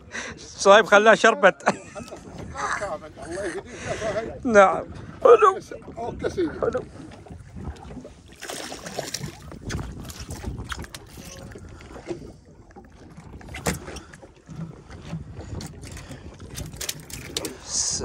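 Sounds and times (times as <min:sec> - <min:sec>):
water lapping against boat hull: 0:00.0 - 0:18.0
wind on microphone: 0:01.8 - 0:18.0.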